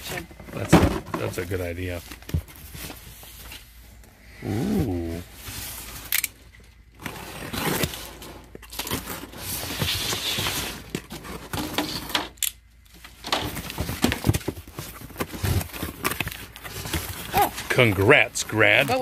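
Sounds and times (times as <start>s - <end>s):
cardboard scraping and rustling: 0.0s - 3.9s, 7.0s - 12.4s, 13.0s - 19.0s.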